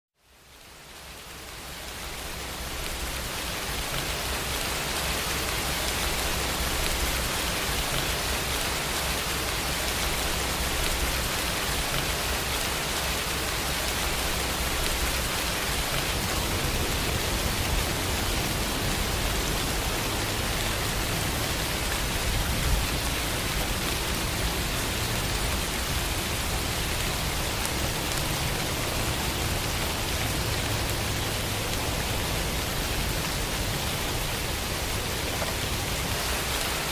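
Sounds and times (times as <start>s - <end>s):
dense rain falling: 0.2s - 36.9s.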